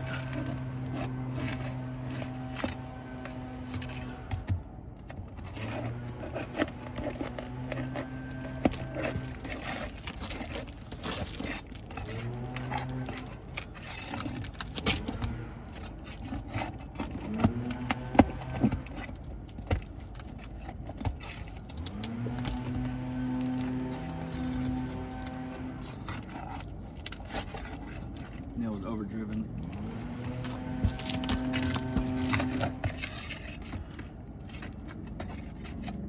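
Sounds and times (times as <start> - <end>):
low hum: 0.0 - 36.0
metal tools scraping shingles: 0.0 - 36.0.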